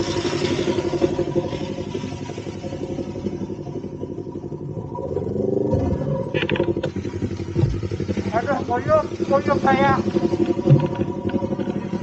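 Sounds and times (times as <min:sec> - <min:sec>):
motorcycle engine idling: 0:00.0 - 0:05.2, 0:06.2 - 0:12.0.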